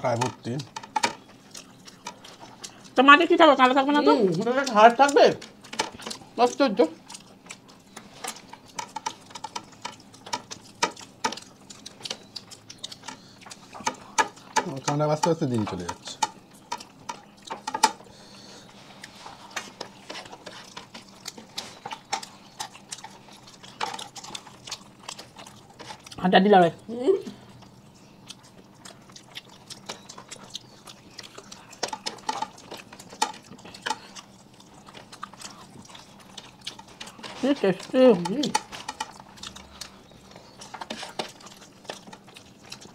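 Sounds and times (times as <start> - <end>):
food clicking and tapping on plates: 0.0 - 26.6, 27.3 - 42.9
chewing: 0.0 - 42.9.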